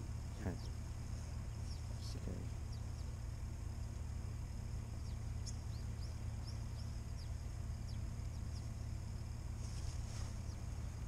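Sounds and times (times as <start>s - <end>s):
small bird chirping: 0.0s - 11.0s
steady low hum: 0.0s - 11.0s.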